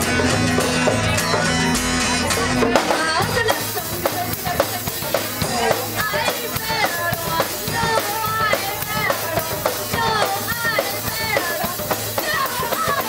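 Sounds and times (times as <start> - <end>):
drum hits: 0.0 - 13.0
punk rock band playing: 0.0 - 13.0.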